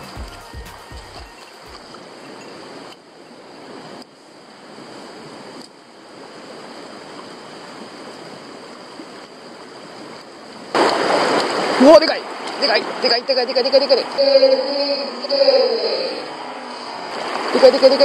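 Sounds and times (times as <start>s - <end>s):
creek rushing over stones: 0.0s - 14.5s, 16.4s - 18.0s.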